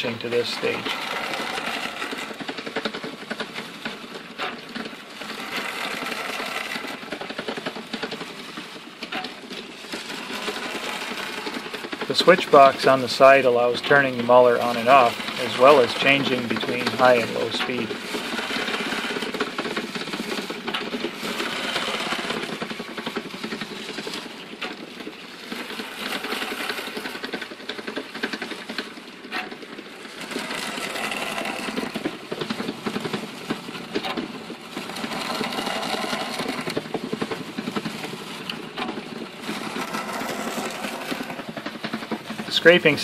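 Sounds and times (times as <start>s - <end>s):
plow scraping metal barrel: 0.0s - 43.0s
sand muller grinding rattle: 0.0s - 43.0s.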